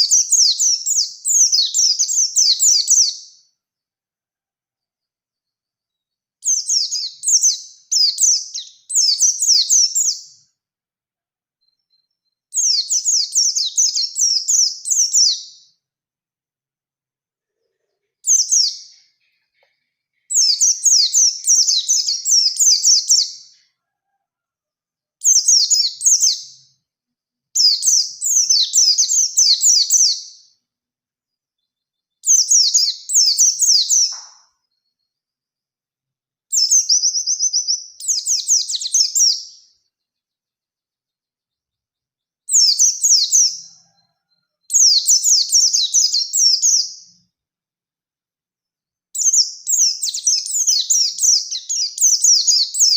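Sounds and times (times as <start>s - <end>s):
songbird chirping: 0.0s - 10.6s, 11.4s - 15.9s, 17.4s - 30.7s, 31.3s - 35.6s, 36.5s - 47.4s, 49.1s - 52.9s.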